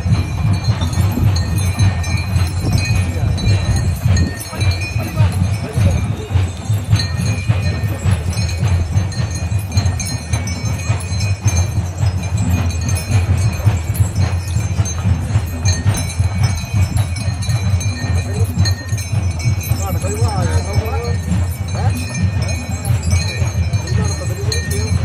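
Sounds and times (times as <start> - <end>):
bells and chains jingling: 0.0 - 25.0
loud steady low rumble: 0.0 - 25.0.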